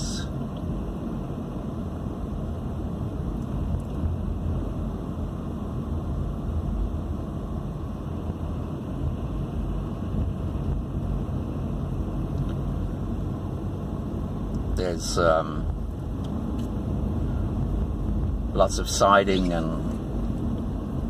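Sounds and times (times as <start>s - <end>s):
car interior road rumble: 0.0s - 21.0s.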